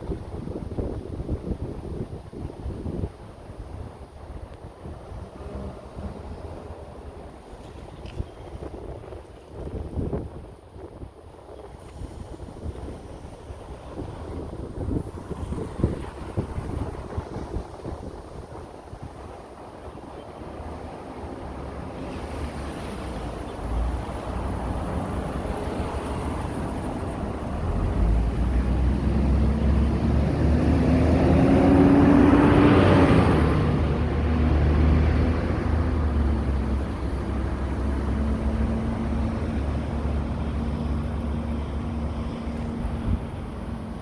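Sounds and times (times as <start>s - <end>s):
traffic engine rumble: 0.0s - 44.0s.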